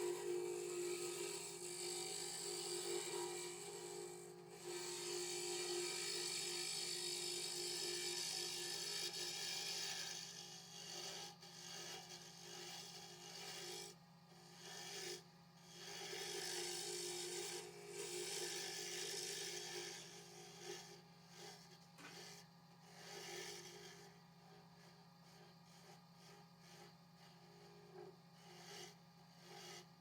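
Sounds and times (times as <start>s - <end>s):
wood lathe motor hum: 0.0s - 13.9s, 15.6s - 29.9s.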